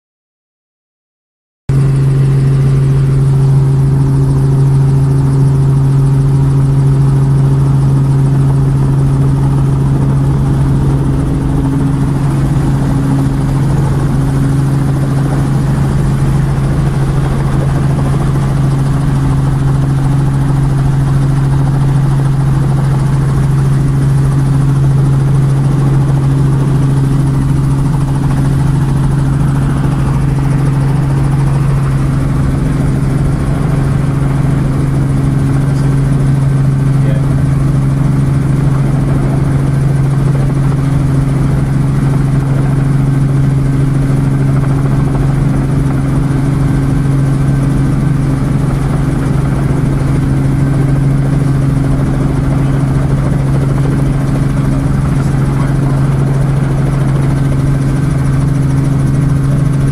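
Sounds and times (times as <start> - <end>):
helicopter engine and rotor drone: 1.7 - 59.9.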